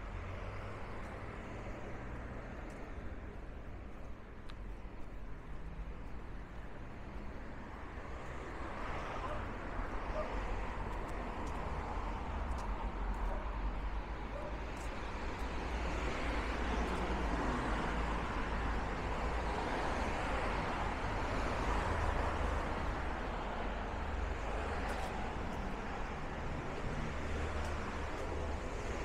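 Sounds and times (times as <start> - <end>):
cars passing on road: 0.0 - 29.0.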